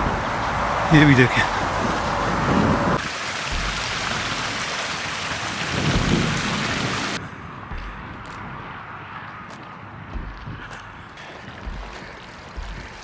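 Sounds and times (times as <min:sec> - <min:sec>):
creek water rushing: 0:00.0 - 0:13.0
wind: 0:00.0 - 0:13.0.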